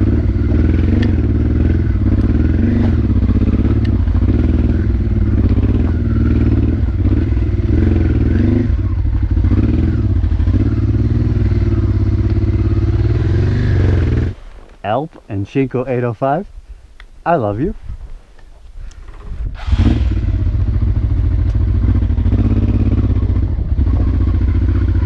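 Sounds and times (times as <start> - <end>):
motorcycle engine revving: 0.0 - 14.5, 19.1 - 25.0.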